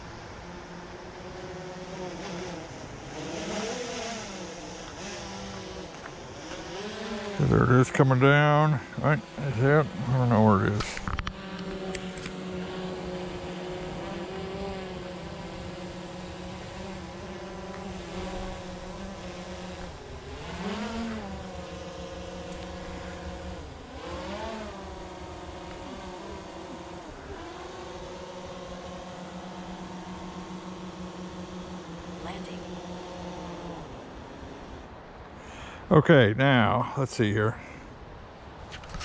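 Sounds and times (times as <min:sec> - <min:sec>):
drone propellers whining: 0:00.0 - 0:35.8.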